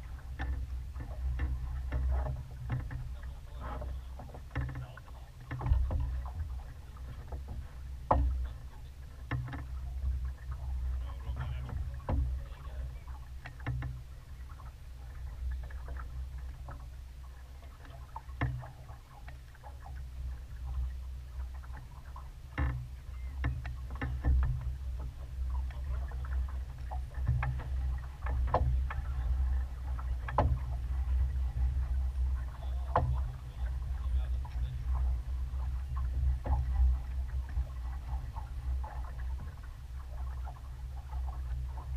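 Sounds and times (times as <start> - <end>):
low rumble: 0.0 - 41.9
water slapping against hull: 0.0 - 41.9.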